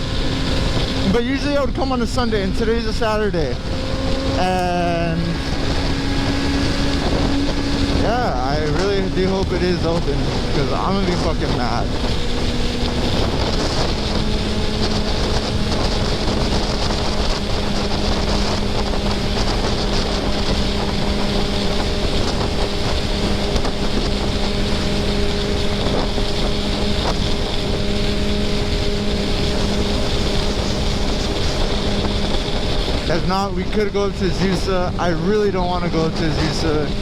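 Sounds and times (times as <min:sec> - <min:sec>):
motorcycle engine cruising: 0:00.0 - 0:37.0
wind noise on microphone: 0:00.0 - 0:37.0.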